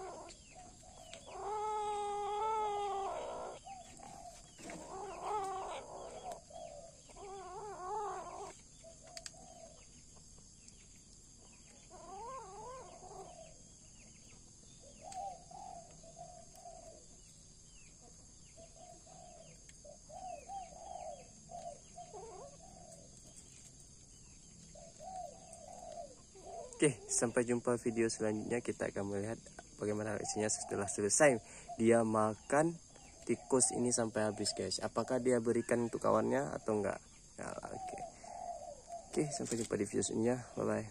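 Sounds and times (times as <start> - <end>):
faint bird chirps: 0.0 - 40.9.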